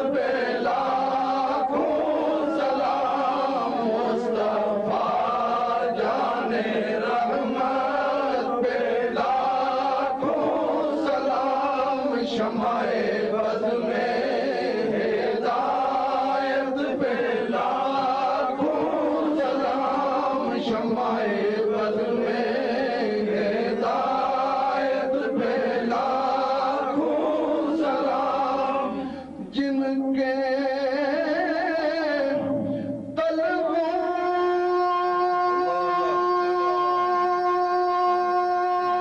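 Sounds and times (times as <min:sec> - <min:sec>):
group devotional chanting: 0:00.0 - 0:39.0.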